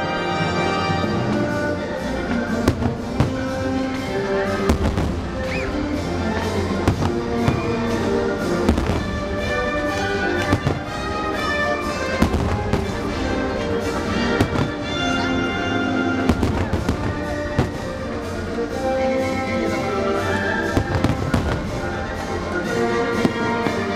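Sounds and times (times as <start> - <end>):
loud music: 0.0 - 23.9
fireworks bangs: 1.6 - 18.7, 19.8 - 23.9.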